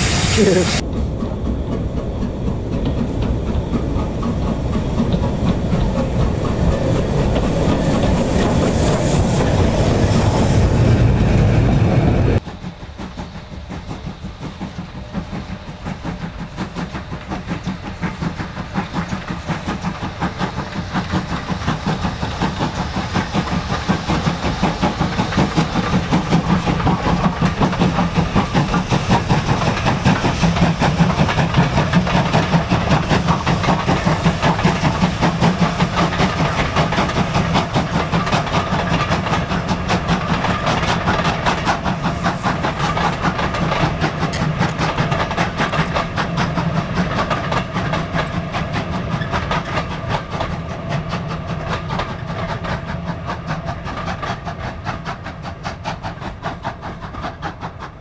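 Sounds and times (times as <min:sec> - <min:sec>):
steam locomotive exhaust beats: 0:00.0 - 0:58.0
train rail noise: 0:00.0 - 0:58.0.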